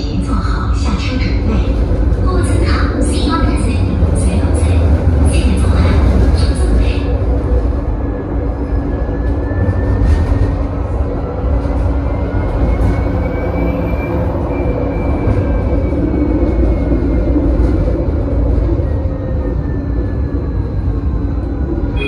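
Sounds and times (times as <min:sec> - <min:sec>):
tram wheels rumbling on rail: 0:00.0 - 0:22.0.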